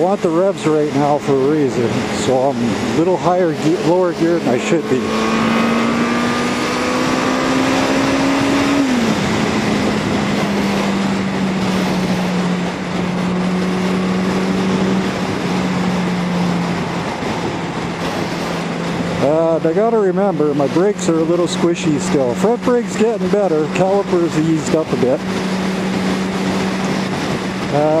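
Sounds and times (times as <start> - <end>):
motorcycle engine revving: 0.0 - 28.0
wind rush: 0.0 - 28.0.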